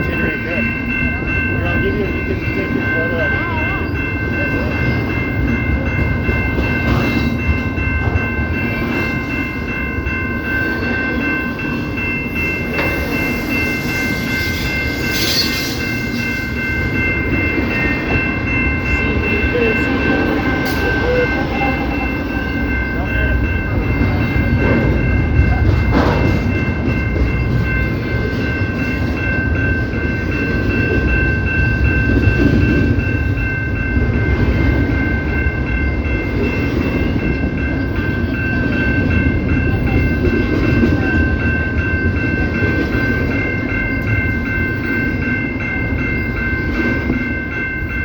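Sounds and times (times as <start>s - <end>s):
train rumbling and wheel clatter: 0.0s - 48.0s.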